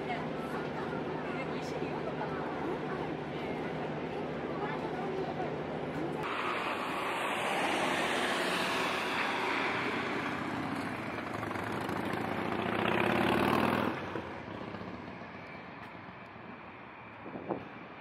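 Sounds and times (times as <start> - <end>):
rush of traffic: 0.0 - 18.0.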